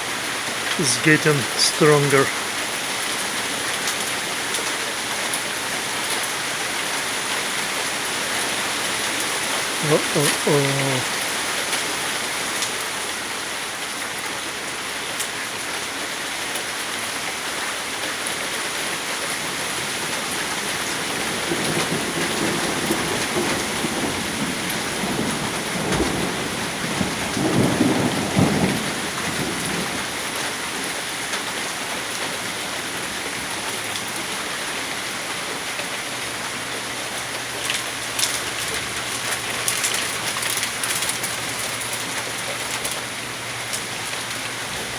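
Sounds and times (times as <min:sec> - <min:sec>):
heavy rain and hail: 0:00.0 - 0:44.9.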